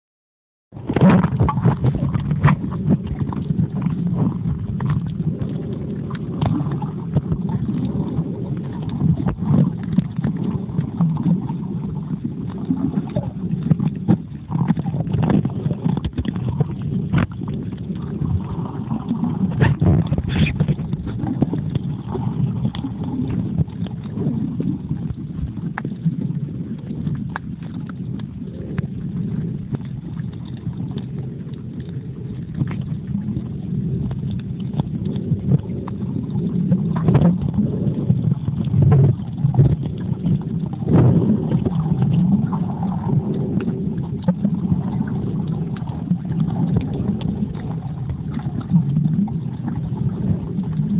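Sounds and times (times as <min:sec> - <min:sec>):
muffled underwater rumble: 0:00.7 - 0:50.9
underwater clicks: 0:00.8 - 0:50.9.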